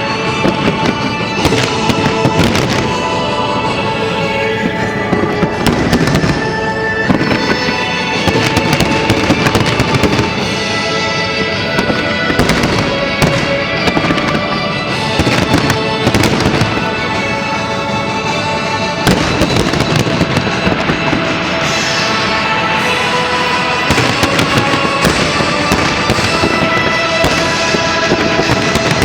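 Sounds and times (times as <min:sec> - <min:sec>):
fireworks bangs and crackles: 0:00.0 - 0:29.0
loud music: 0:00.0 - 0:29.0.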